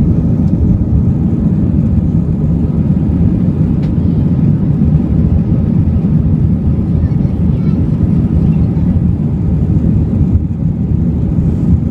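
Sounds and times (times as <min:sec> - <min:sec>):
airliner engine roar in flight: 0:00.0 - 0:11.9.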